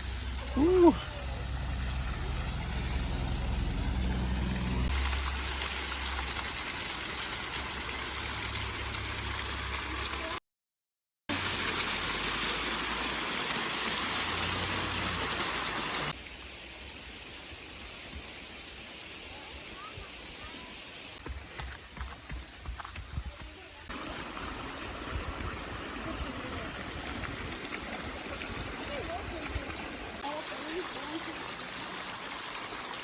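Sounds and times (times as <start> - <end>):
creek water rushing: 0.0 - 10.4, 11.3 - 17.3, 18.0 - 33.0.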